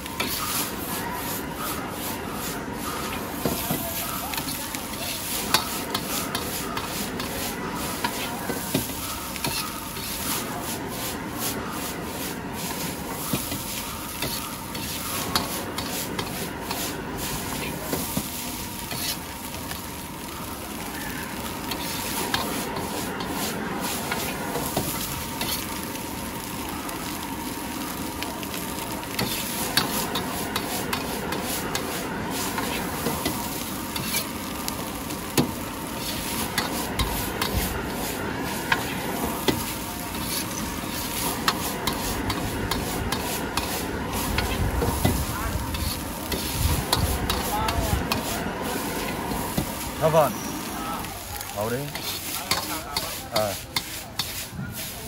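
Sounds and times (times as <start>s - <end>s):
noodles sizzling in a wok: 0.0s - 55.0s
ladle scraping wok: 0.1s - 19.3s, 21.6s - 25.8s, 29.1s - 50.7s, 51.9s - 55.0s.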